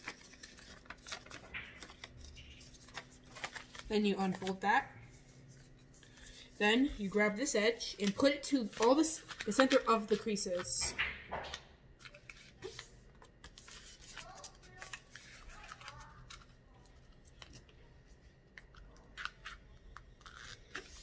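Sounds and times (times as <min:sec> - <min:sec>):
paper rustling and crinkling: 0:00.0 - 0:10.8, 0:11.4 - 0:21.0.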